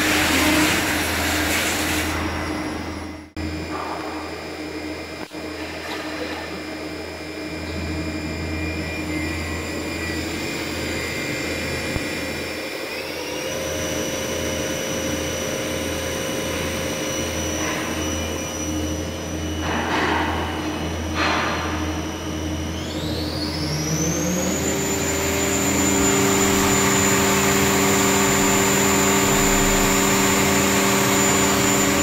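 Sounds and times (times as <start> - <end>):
machine spindle whine: 0.0 - 32.0
low machine hum: 2.3 - 32.0.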